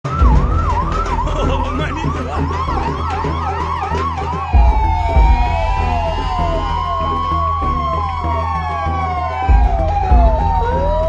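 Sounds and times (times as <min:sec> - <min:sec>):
deep music beat: 0:00.0 - 0:11.0
electronic ambulance siren yelping: 0:00.0 - 0:11.0.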